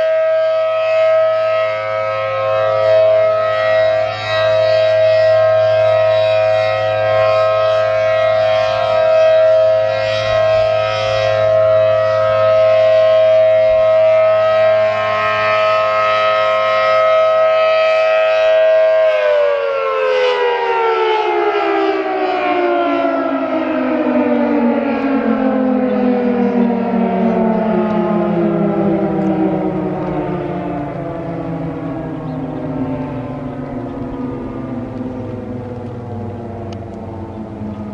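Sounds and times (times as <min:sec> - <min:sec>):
dual-tone warning siren: 0:00.0 - 0:37.9.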